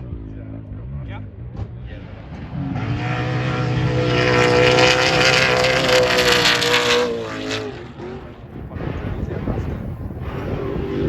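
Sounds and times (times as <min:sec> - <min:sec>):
engine passing at high revs: 0:01.9 - 0:11.0.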